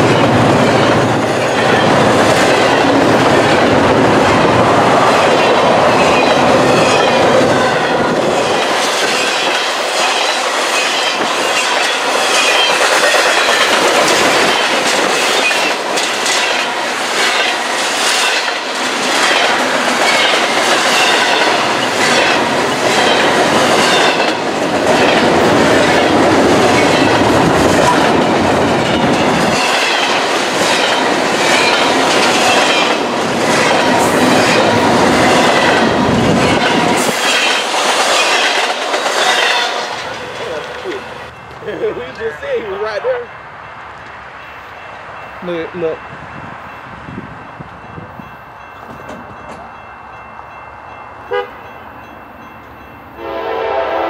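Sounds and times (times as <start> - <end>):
clickety-clack over rail joints: 0.0 - 43.3, 47.6 - 49.8
train wheels on rail: 0.0 - 54.0.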